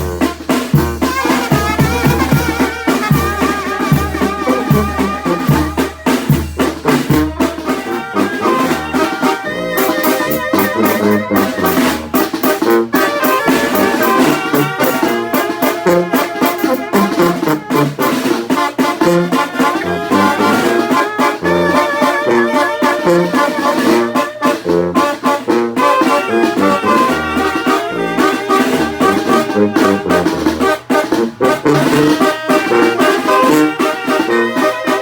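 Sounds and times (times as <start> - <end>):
brass band playing: 0.0 - 35.0
drums: 0.0 - 35.0.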